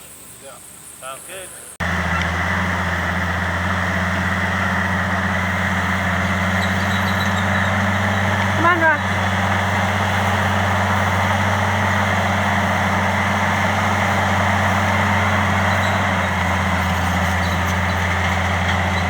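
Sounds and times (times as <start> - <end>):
heavy diesel engine humming: 1.8 - 19.0.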